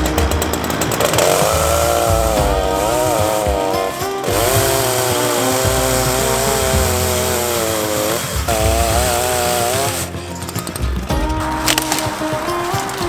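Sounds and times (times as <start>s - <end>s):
chainsaw cutting into tree: 0.0s - 13.0s.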